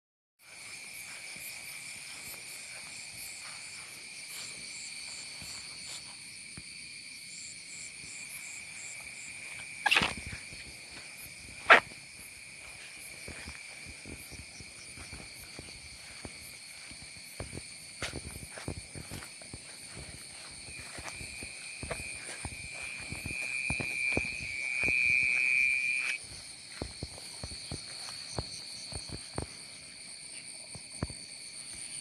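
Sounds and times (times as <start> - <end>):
insects chorus: 0.4 - 32.0
pulsing insect chirp: 0.4 - 32.0.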